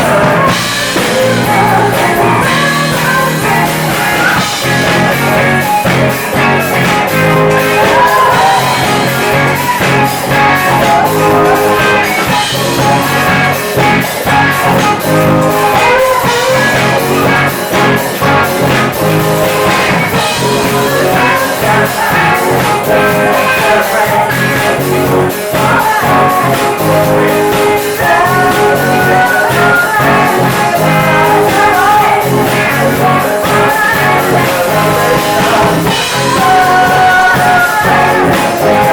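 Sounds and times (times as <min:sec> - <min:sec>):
live band playing pop-funk: 0:00.0 - 0:38.9
person singing: 0:00.0 - 0:38.9.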